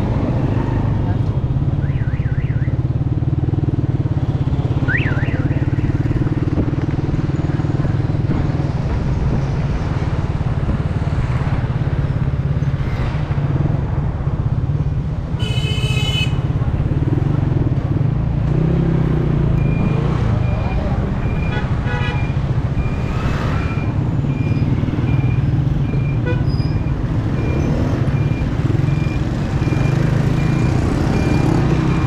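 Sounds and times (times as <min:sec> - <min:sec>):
road and traffic noise: 0:00.0 - 0:32.0.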